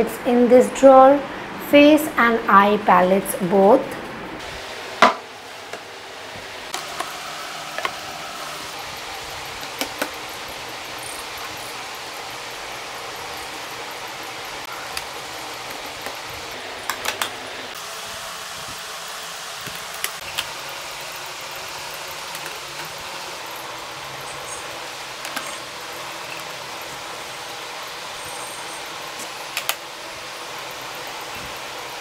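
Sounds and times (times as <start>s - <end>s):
steady hiss: 4.4s - 32.0s.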